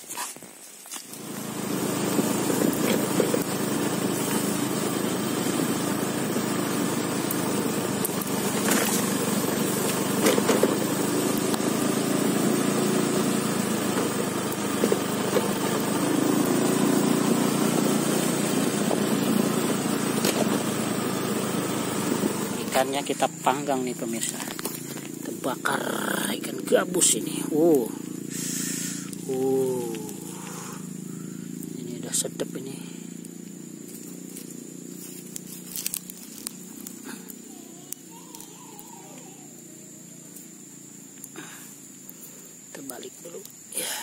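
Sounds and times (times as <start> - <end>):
small scooter engine running: 0.8 - 44.0.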